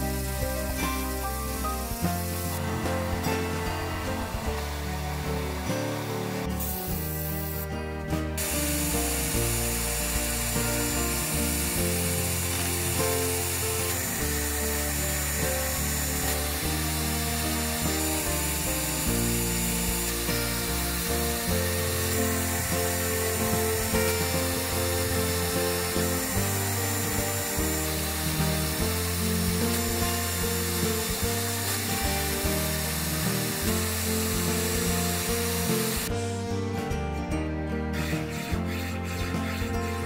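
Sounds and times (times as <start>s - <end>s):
wire brush wheel scrubbing metal: 0.0s - 7.8s, 8.4s - 36.1s, 38.0s - 40.0s
background music: 0.0s - 40.0s.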